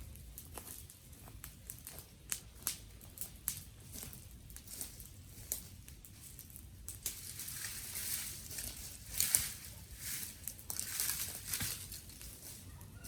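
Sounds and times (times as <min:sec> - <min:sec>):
dry twigs crackling and snapping: 0:00.0 - 0:13.0
rustling: 0:00.1 - 0:13.0.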